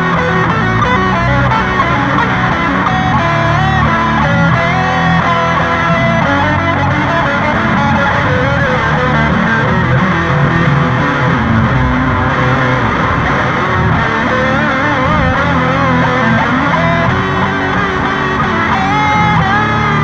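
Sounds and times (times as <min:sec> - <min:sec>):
bass: 0:00.0 - 0:20.0
electric guitar melody: 0:00.0 - 0:20.0
strummed guitar: 0:00.0 - 0:20.0.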